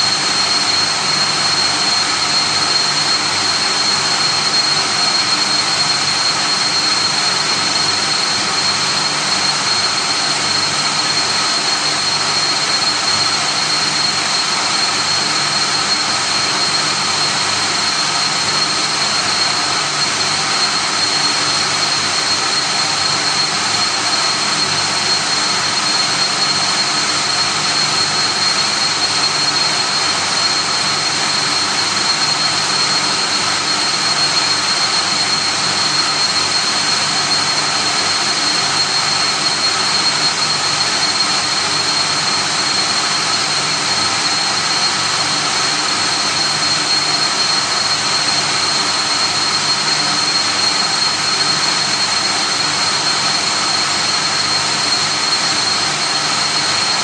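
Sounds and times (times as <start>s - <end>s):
high-pitched whine: 0.0s - 57.0s.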